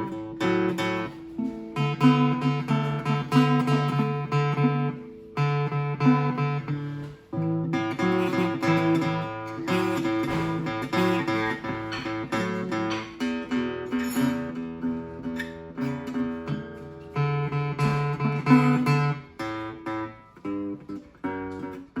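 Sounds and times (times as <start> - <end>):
acoustic guitar blues: 0.0 - 22.0.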